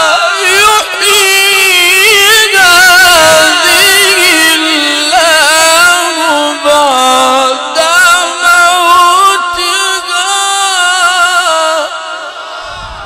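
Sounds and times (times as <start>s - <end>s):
man chanting verses: 0.0s - 13.0s.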